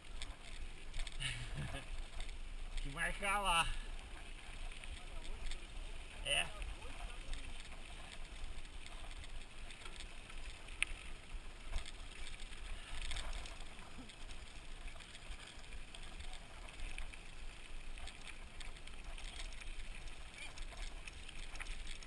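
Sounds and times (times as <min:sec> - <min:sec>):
bike rattling and ticking: 0:00.0 - 0:22.0.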